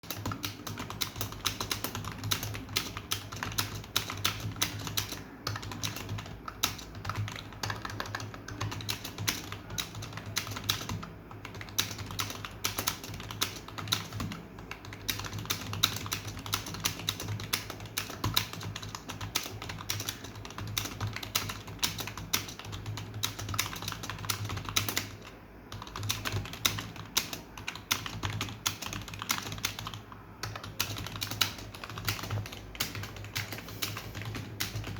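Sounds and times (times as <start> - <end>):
fast typing on a keyboard: 0.0 - 34.9.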